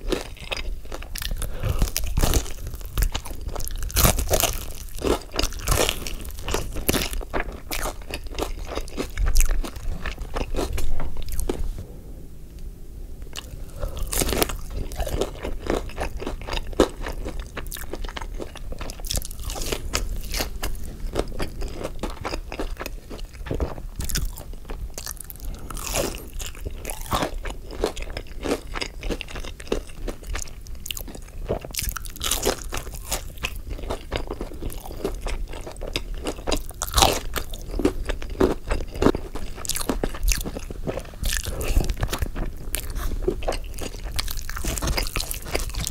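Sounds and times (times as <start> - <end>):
chewing crispy fried food: 0.0 - 11.8, 13.3 - 45.9.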